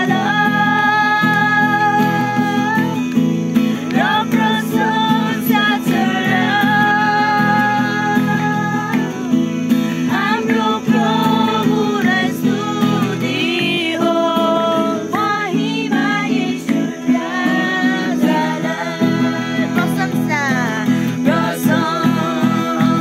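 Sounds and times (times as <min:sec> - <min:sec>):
acoustic guitar strumming: 0:00.0 - 0:23.0
woman singing: 0:00.0 - 0:23.0.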